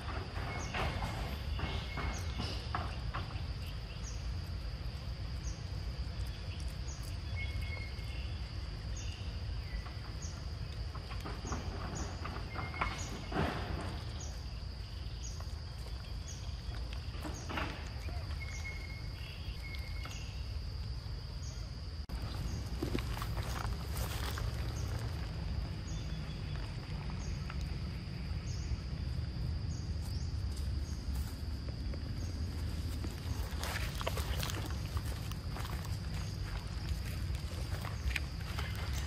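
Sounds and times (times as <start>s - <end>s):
insect chirp: 0.0s - 39.0s
insects buzzing: 0.0s - 39.0s.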